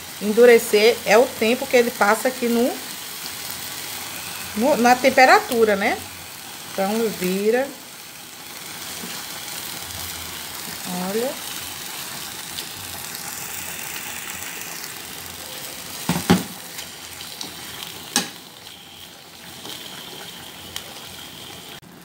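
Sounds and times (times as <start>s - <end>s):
meat sizzling in a frying pan: 0.0s - 22.0s.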